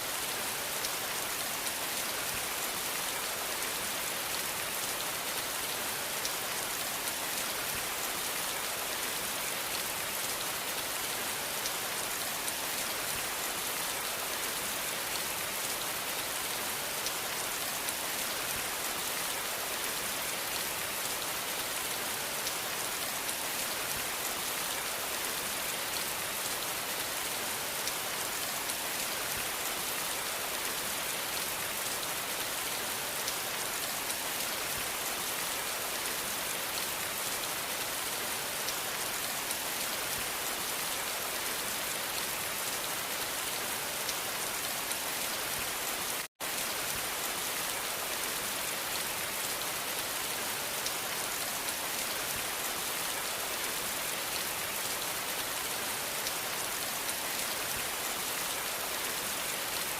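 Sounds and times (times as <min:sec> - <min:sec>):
rain falling on surface: 0:00.0 - 0:59.9.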